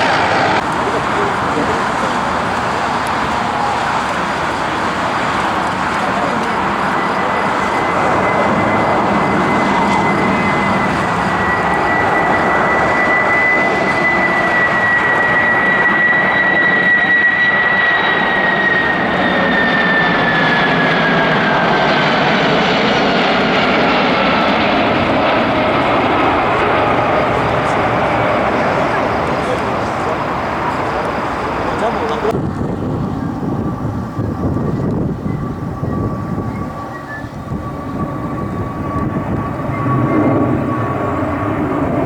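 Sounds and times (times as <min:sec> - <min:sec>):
aircraft engines rushing: 0:00.0 - 0:42.0
high engine whine: 0:00.0 - 0:42.0.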